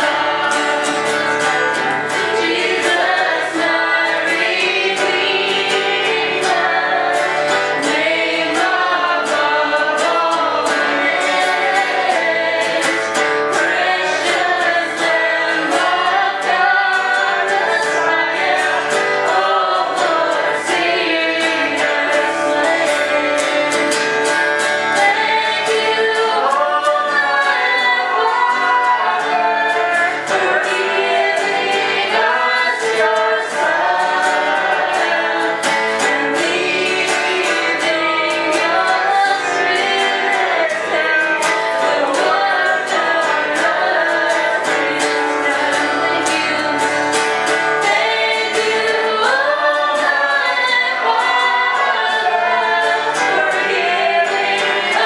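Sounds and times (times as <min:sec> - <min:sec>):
woman singing into a microphone: 0:00.0 - 0:24.1, 0:24.8 - 0:55.0
acoustic guitar strumming: 0:00.0 - 0:55.0
group singing along: 0:00.0 - 0:55.0.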